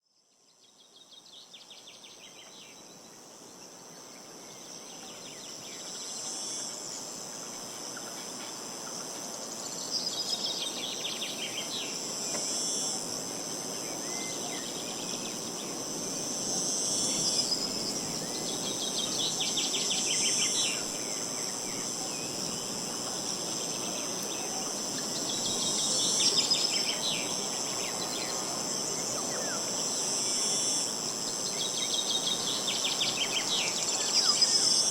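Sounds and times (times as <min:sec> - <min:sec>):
songbird singing: 0:00.1 - 0:06.4, 0:09.6 - 0:12.4, 0:13.8 - 0:15.9, 0:17.1 - 0:30.1, 0:30.9 - 0:34.9
insects trilling: 0:00.2 - 0:34.9.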